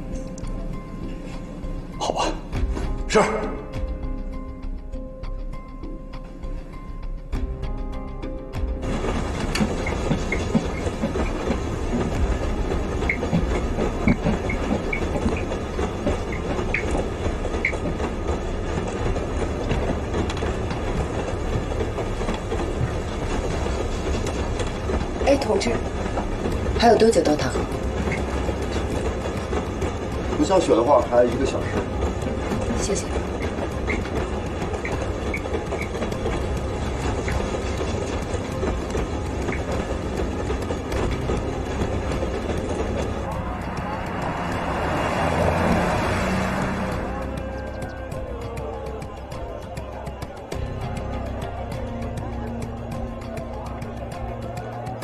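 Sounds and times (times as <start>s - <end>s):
train wheels rumbling on track: 0.0s - 55.0s
high wheel squeaks: 8.8s - 55.0s.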